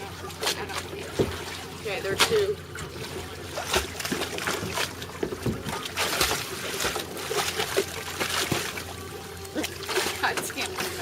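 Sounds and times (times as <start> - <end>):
water sloshing against hull: 0.0 - 11.0.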